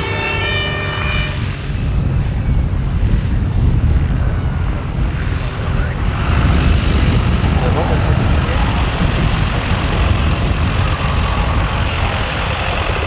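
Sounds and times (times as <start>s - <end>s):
propeller engine running: 0.0s - 13.0s
wind rumble on microphone: 0.0s - 13.0s.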